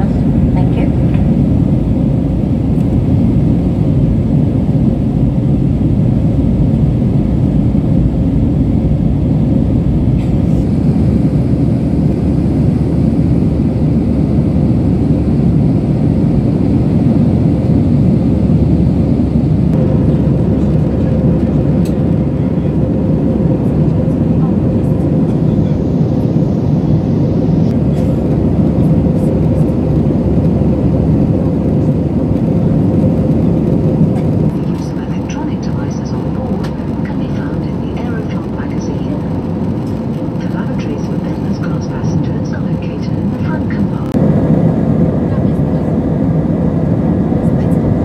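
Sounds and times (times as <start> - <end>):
jet engines and airflow rumble: 0.0 - 48.0.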